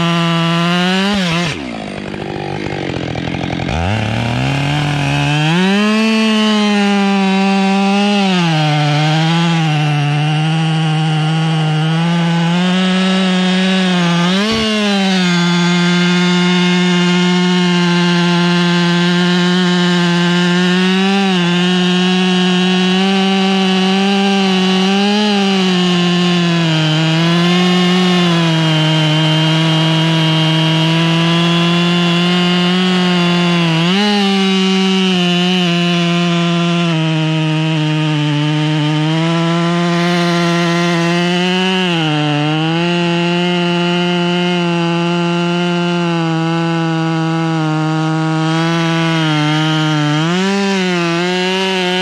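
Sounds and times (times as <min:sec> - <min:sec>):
chainsaw cutting log: 0:00.0 - 0:52.0.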